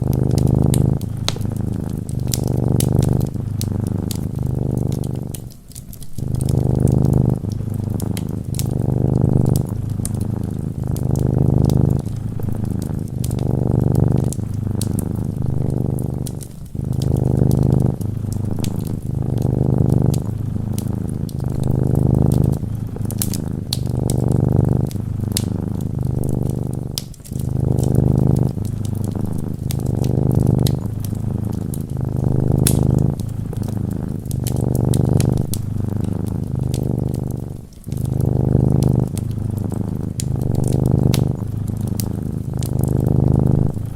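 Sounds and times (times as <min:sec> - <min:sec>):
cat purring: 0:00.0 - 0:43.9
fireplace crackles: 0:00.0 - 0:43.9.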